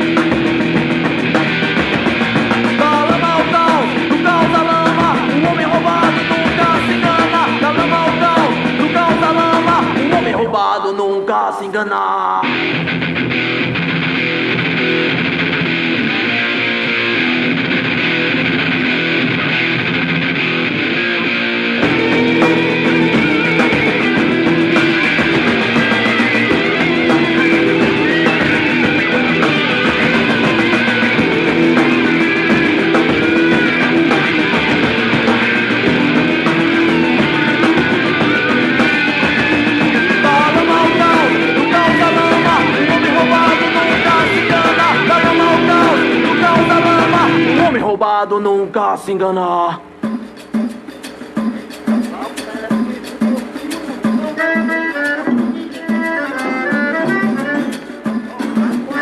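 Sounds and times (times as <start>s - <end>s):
rock drums: 0.0s - 48.0s, 49.8s - 59.0s
electric guitar riffs: 0.0s - 48.4s, 49.8s - 59.0s.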